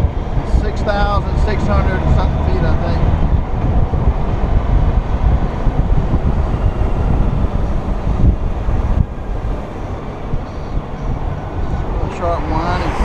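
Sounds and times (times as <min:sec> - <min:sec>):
motorcycle engine at road speed: 0:00.0 - 0:13.0
wind buffeting microphone: 0:00.0 - 0:13.0.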